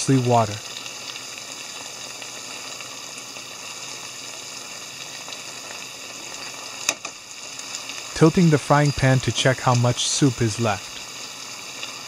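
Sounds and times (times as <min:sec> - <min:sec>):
liquid sizzling and bubbling in pan: 0:00.0 - 0:12.0.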